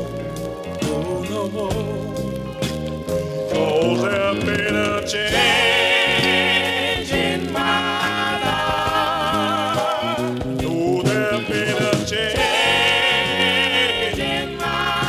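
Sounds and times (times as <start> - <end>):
gospel quartet singing: 0.0 - 15.0
instrumental backing: 0.0 - 15.0.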